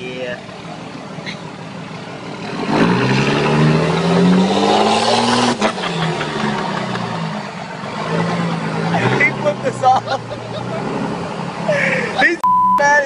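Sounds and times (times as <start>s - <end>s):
diesel engine revving: 0.0s - 12.4s.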